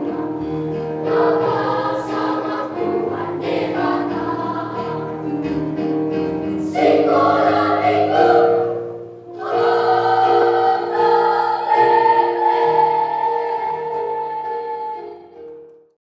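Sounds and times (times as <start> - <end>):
children's choir singing: 0.0 - 5.7, 6.6 - 15.7.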